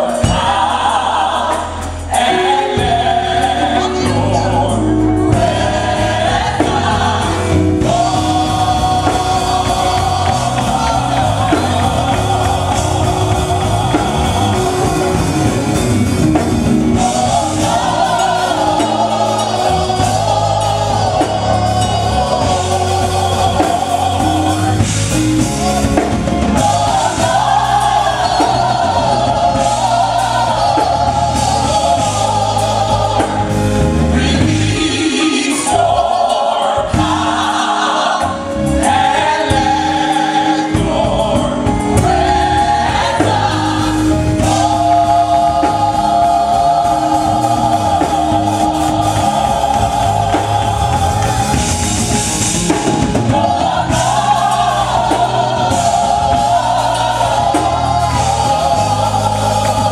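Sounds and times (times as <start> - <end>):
gospel choir singing: 0.0 - 59.9
steady drum beat: 0.0 - 59.9.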